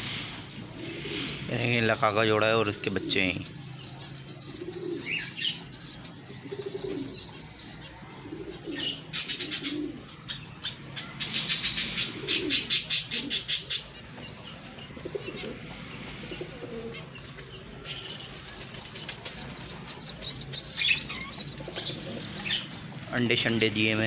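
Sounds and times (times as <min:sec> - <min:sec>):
pigeons cooing: 0:00.0 - 0:24.0
high-pitched bird chirping: 0:00.6 - 0:15.7, 0:16.3 - 0:22.8.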